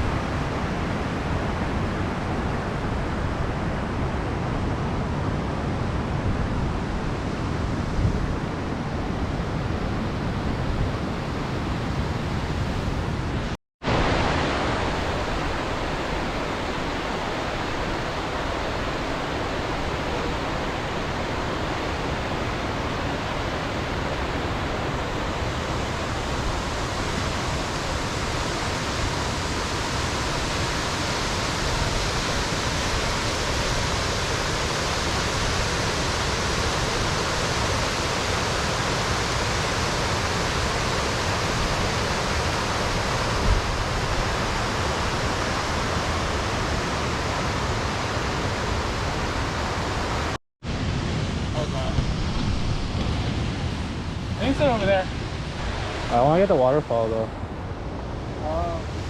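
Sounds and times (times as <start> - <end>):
waterfall roaring: 8.3 - 59.0.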